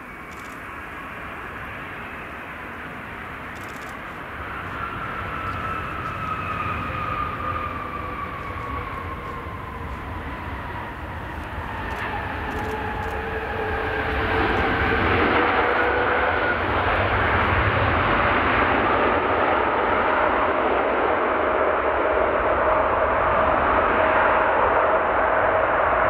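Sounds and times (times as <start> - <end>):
deep engine rumble: 0.0 - 25.4
jet engines whining: 0.0 - 26.0.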